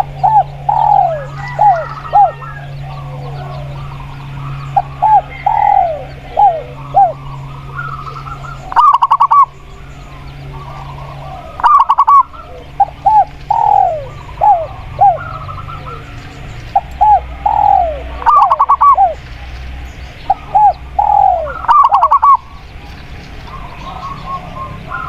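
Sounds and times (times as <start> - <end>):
doves cooing: 0.0 - 25.0
faint birdsong: 0.0 - 25.0.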